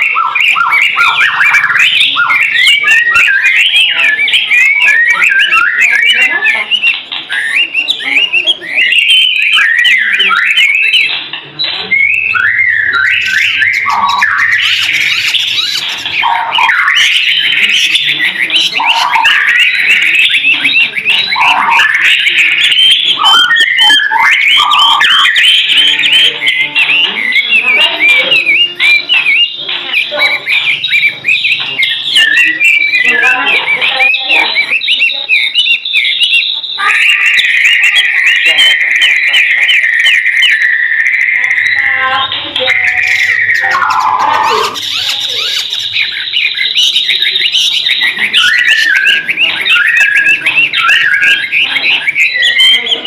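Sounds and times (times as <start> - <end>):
bird singing whistled notes: 0.0 - 53.0.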